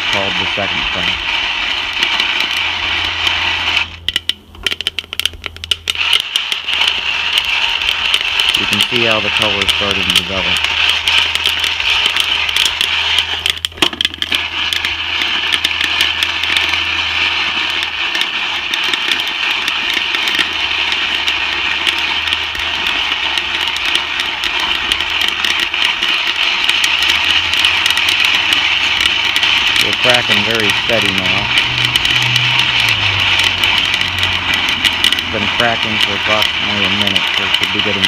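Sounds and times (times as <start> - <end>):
coffee beans cracking: 0.0 - 38.0
steady hiss: 0.0 - 38.0
low hum: 5.3 - 38.0.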